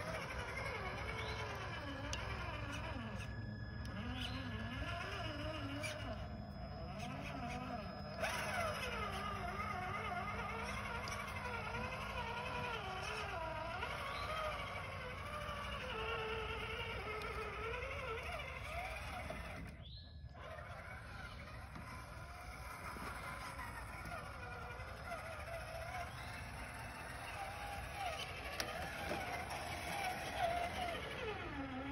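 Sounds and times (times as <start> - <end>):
electric motor and gear whine: 0.0 - 31.9.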